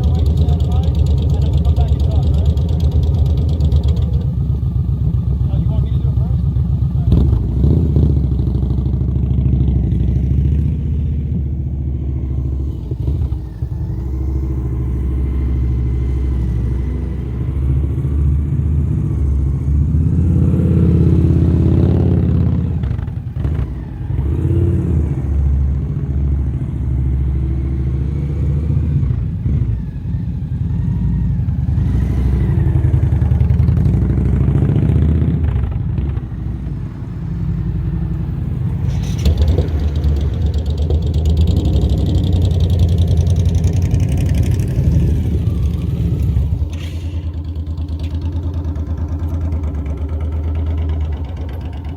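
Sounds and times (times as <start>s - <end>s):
motorcycle engine at low revs: 0.0s - 51.9s.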